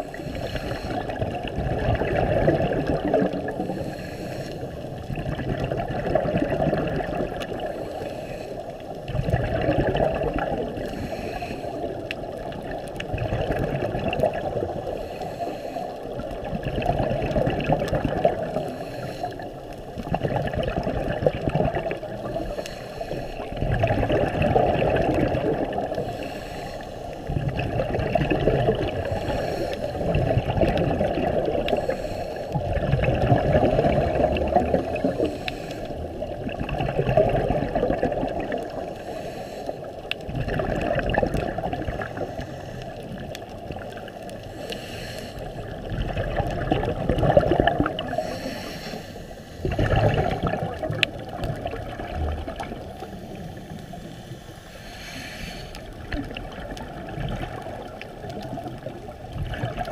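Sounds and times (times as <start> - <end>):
regulator bubbles gurgling underwater: 0.0 - 59.9.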